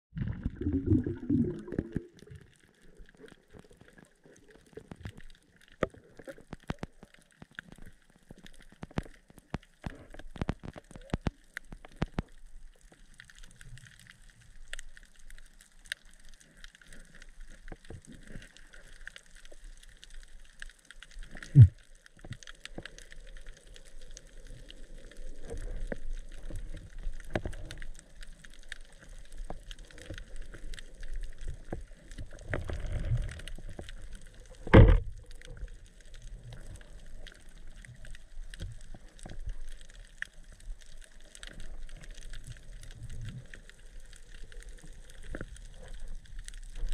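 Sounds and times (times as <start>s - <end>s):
underwater crackling and hiss: 0.4s - 46.9s.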